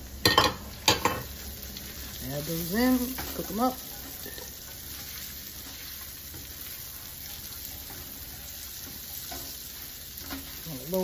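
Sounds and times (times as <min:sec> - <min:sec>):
mushrooms sizzling in oil: 0:00.0 - 0:11.0
spatula stirring in skillet: 0:00.8 - 0:11.0.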